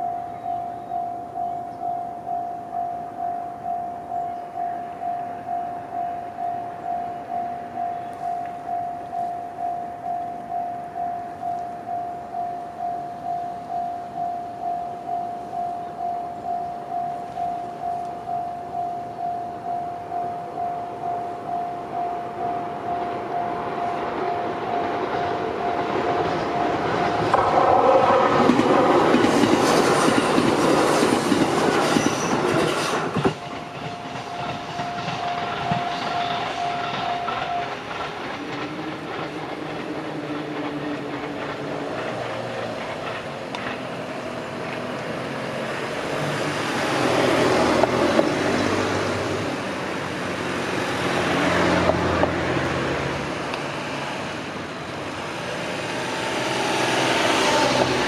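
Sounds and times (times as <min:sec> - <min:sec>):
train rumble: 0:00.0 - 0:58.0
train wheels clicking on rail joints: 0:00.0 - 0:58.0.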